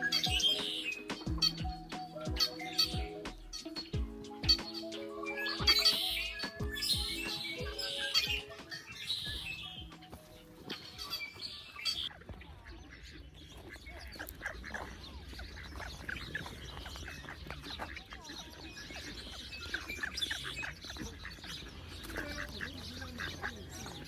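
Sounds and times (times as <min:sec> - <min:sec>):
birds chirping: 0:00.0 - 0:24.0
ducks quacking: 0:00.0 - 0:24.0.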